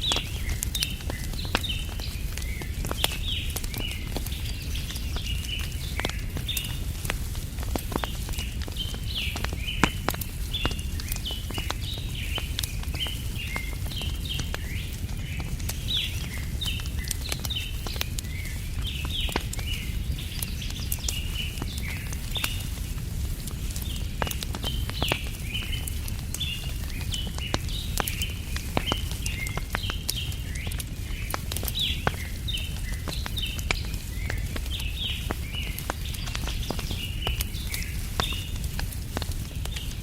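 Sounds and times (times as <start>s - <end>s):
birds chirping: 0.0s - 6.9s, 7.6s - 22.8s, 23.6s - 39.9s
wood fire crackling and popping: 0.0s - 40.0s.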